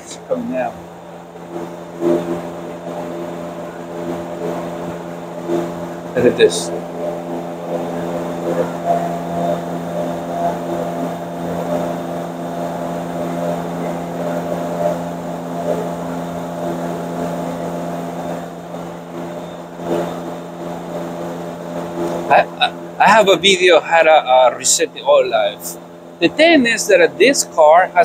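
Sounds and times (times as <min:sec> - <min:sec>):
steady machine drone: 0:00.0 - 0:28.0.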